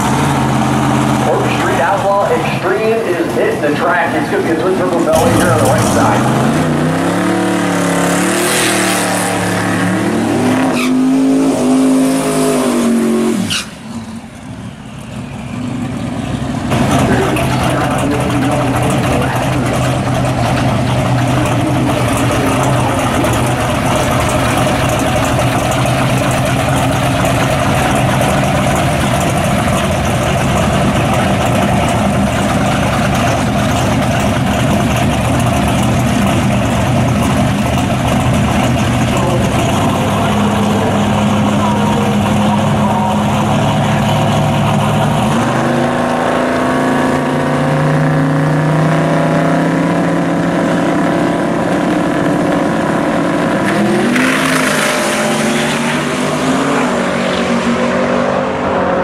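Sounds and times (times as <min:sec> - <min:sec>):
drag car engine revving: 0:00.0 - 0:59.0.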